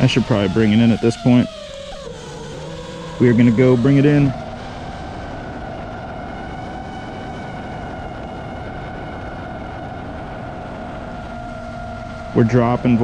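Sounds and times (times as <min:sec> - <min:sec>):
quadcopter motors buzzing: 0:00.0 - 0:13.0
wind rumble: 0:00.0 - 0:13.0.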